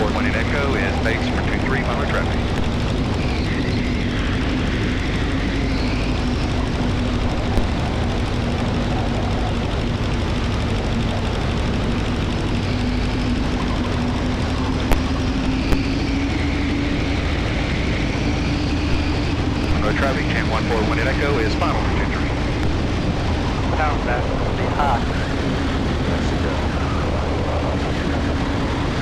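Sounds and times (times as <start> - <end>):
airplane engine and propeller: 0.0 - 29.0.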